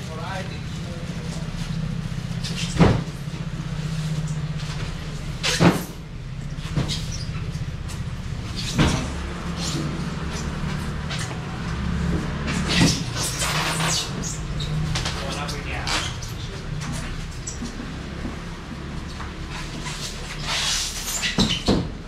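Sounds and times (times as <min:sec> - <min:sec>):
vehicle engine humming: 0:00.0 - 0:21.1.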